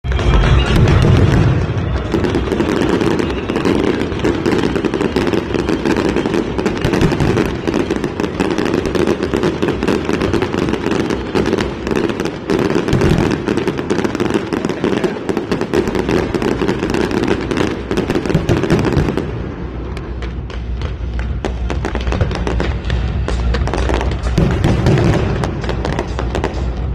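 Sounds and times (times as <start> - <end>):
fireworks crackling and popping: 0.0 - 26.9.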